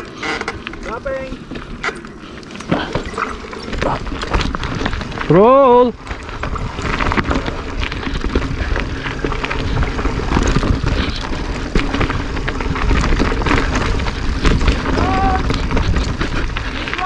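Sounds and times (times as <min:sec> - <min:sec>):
bike tyres crunching over stones: 0:00.0 - 0:17.0
wind rumble on microphone: 0:00.0 - 0:17.0.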